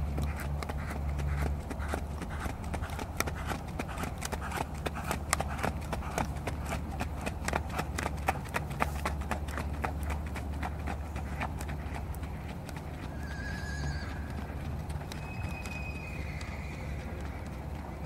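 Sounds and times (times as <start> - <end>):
horse hoofbeats on gravel: 0.0 - 18.0.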